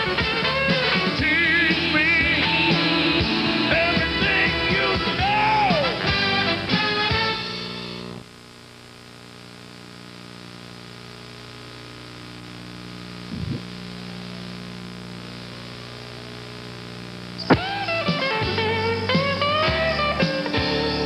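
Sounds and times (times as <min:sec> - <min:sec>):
electrical hum: 0:00.0 - 0:21.0
tape static hiss: 0:00.0 - 0:21.0.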